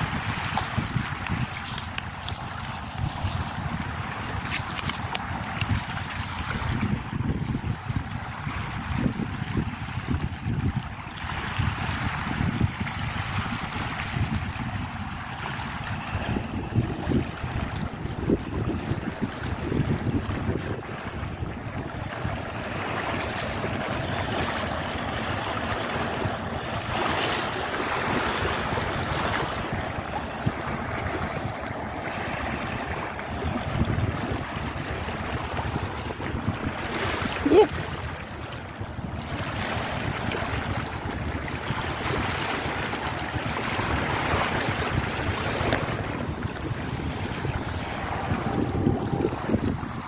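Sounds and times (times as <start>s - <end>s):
waves washing over stones: 0.0s - 50.0s
wind buffeting microphone: 0.0s - 50.0s.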